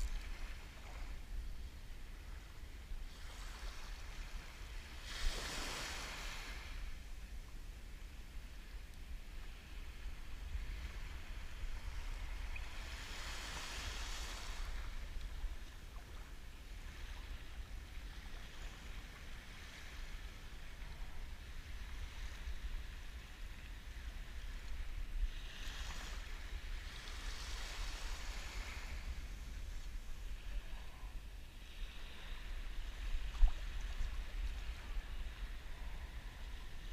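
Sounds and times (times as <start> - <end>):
small waves washing: 0.0 - 7.2, 8.6 - 36.9
wind rumble on microphone: 0.0 - 36.9.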